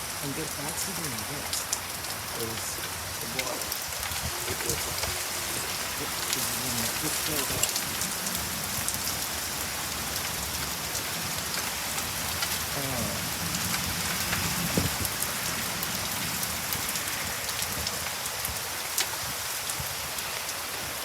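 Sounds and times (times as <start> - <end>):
hailstones ticking on surfaces: 0.0 - 21.0
rain hissing: 0.0 - 21.0.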